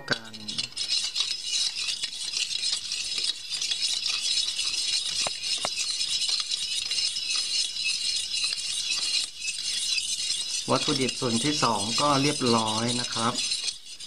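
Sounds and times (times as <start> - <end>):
utensil scraping metal bowl: 0.0 - 14.0.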